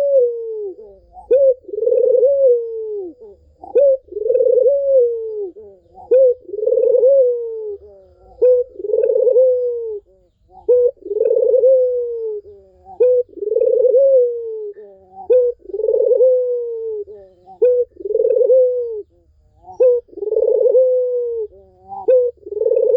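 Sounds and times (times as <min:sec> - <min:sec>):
doves cooing: 0:00.0 - 0:22.9.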